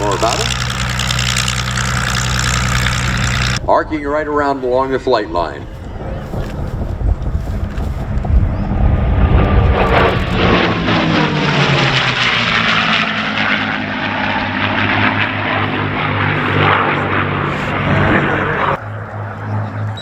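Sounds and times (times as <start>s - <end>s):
propeller planes flying by: 0.0s - 20.0s.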